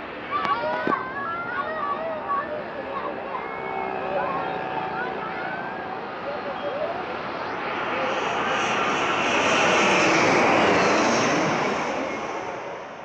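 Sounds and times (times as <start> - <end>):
passenger plane passing overhead: 0.0 - 13.0.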